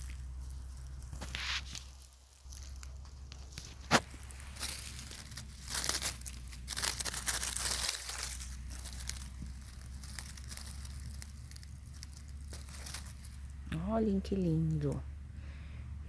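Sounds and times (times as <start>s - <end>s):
dry leaves crackling and rustling: 0.0s - 15.4s.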